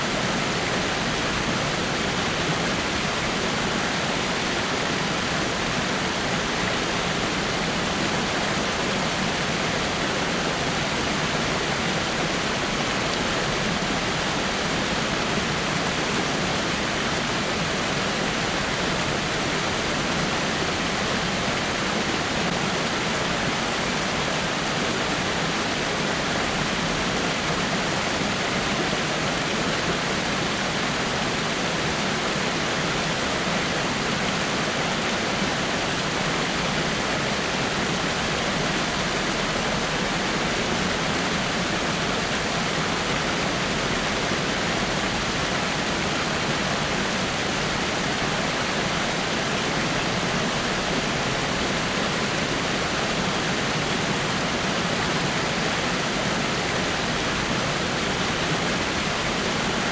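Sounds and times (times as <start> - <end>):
waterfall splashing over rocks: 0.0 - 59.9.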